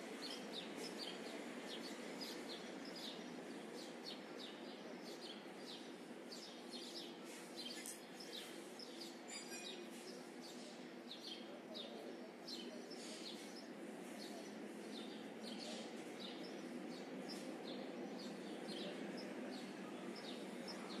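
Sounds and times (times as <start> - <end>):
small birds chirping: 0.2 - 21.0.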